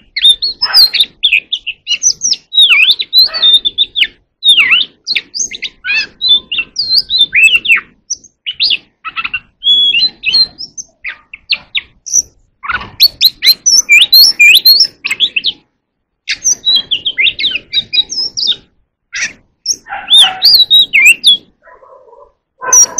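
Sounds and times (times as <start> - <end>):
bird singing: 0.0 - 22.9.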